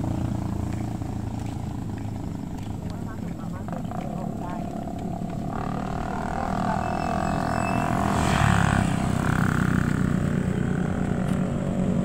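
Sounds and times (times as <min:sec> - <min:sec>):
low rumble of traffic: 0:00.0 - 0:12.0
motorcycle passing by: 0:00.0 - 0:12.0.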